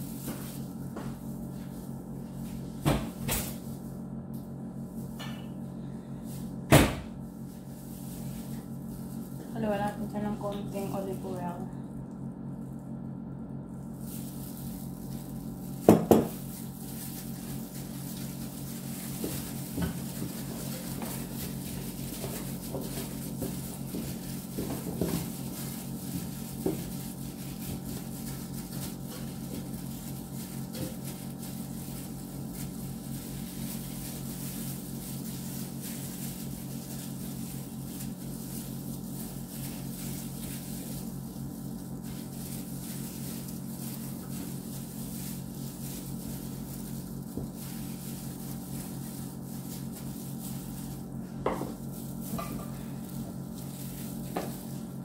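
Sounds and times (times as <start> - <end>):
steady low hum: 0.0 - 55.0
food mixed by hand in a pan: 7.2 - 55.0.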